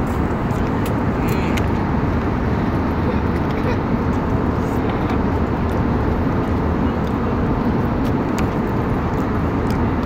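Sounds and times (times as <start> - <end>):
airliner cabin noise: 0.0 - 10.0.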